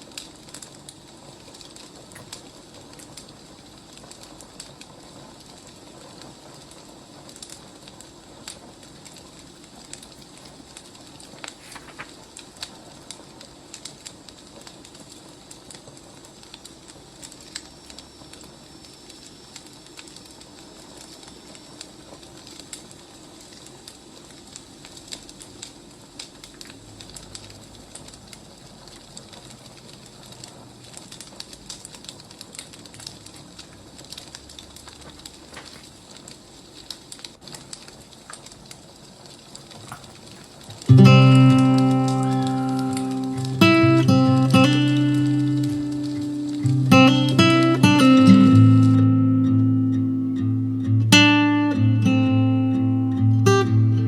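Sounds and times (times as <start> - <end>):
fire hissing: 0.0 - 54.0
firewood crackling and popping: 0.0 - 54.0.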